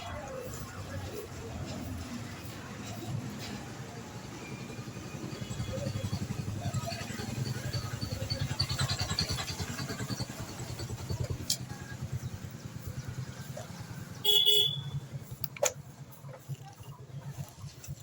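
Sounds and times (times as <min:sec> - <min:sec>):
motorcycle engine running: 0:00.1 - 0:18.0.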